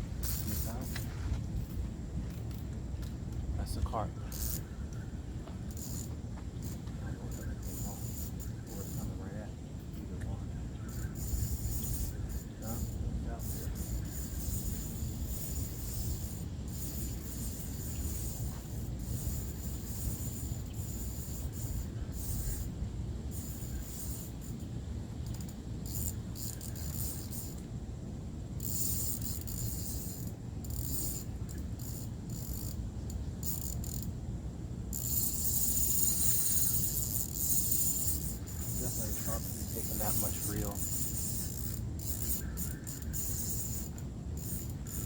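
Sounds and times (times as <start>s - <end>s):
fishing reel whirring: 0.2s - 3.4s, 4.3s - 5.1s, 5.7s - 10.1s, 10.8s - 27.7s, 28.5s - 34.2s, 34.9s - 45.0s.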